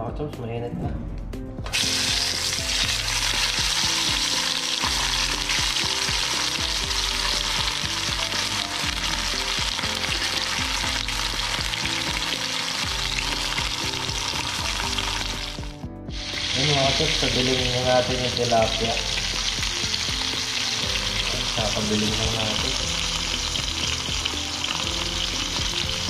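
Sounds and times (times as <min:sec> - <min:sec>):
fish frying in hot oil: 0:01.7 - 0:26.0.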